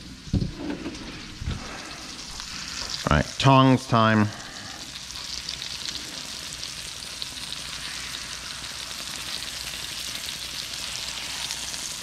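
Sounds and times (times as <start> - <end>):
chicken sizzling in a pan: 1.1 - 12.0.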